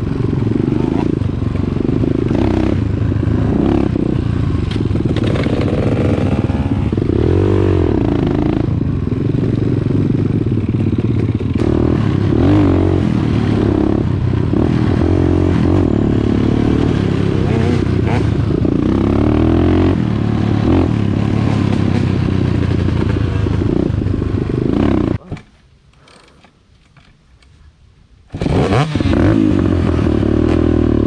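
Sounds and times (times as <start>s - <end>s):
dirt bike engine revving: 0.0s - 25.2s, 28.3s - 31.0s.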